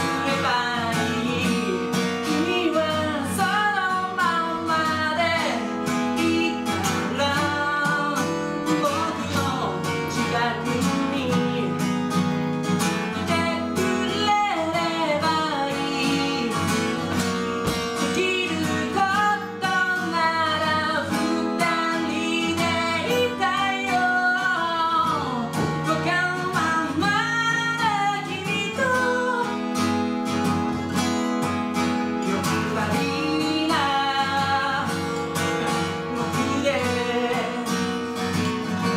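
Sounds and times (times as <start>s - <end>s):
man singing: 0.0s - 11.9s, 13.0s - 17.2s, 18.0s - 29.6s, 32.2s - 38.9s
acoustic guitar: 0.0s - 38.9s.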